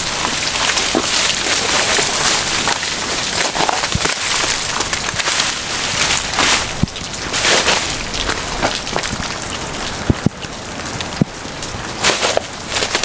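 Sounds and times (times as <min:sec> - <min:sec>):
icy branches crackling underfoot: 0:00.0 - 0:13.0
rain falling: 0:00.0 - 0:13.0.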